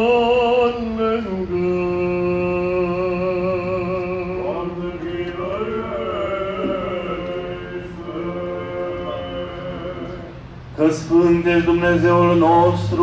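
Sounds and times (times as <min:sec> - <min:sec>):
voices chanting: 0:00.0 - 0:13.0.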